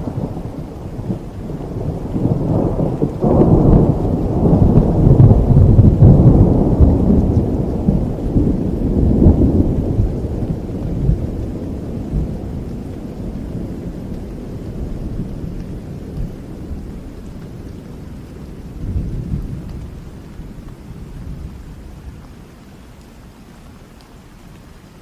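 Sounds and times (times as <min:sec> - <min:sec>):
thunder rolling: 0:00.0 - 0:22.2
rain falling: 0:00.0 - 0:25.0.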